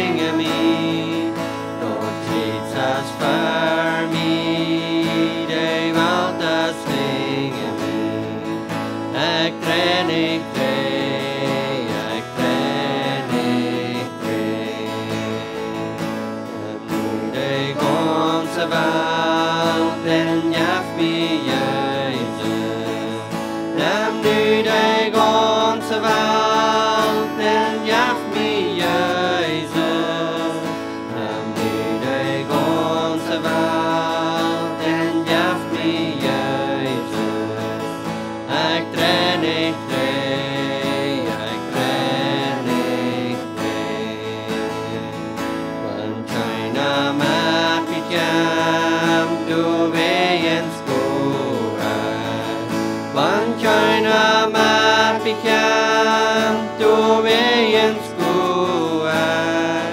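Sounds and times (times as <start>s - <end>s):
strummed acoustic guitar: 0.0s - 59.9s
woman and man singing a hymn: 0.0s - 59.9s.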